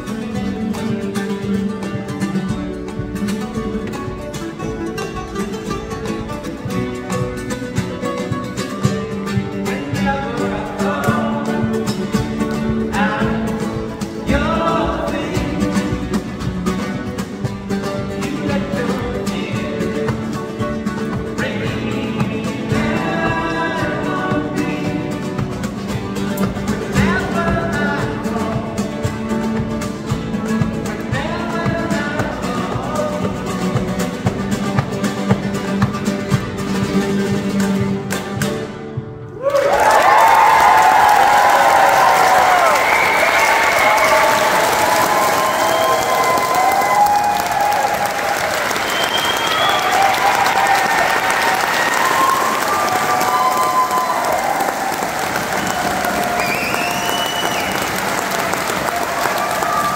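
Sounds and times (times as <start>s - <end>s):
flamenco guitars playing: 0.0s - 59.9s.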